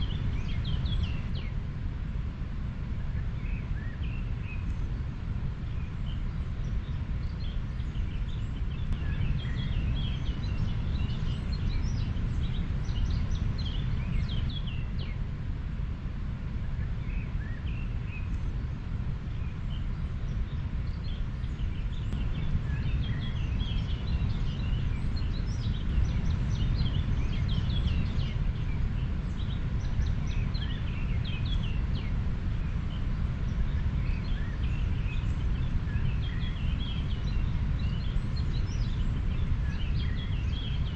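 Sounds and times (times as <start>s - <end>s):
small birds chirping: 0.0s - 1.8s, 2.9s - 15.6s, 16.5s - 40.9s.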